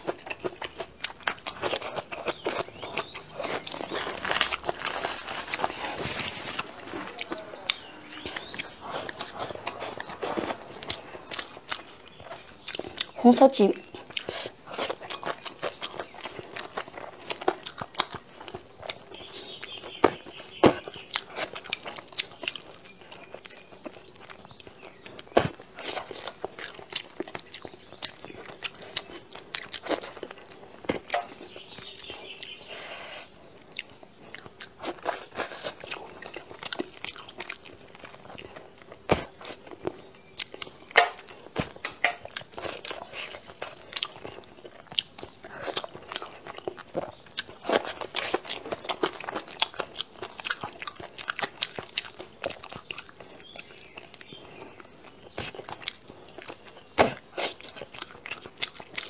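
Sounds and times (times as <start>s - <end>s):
person chewing and mouth smacks: 0.0s - 59.0s.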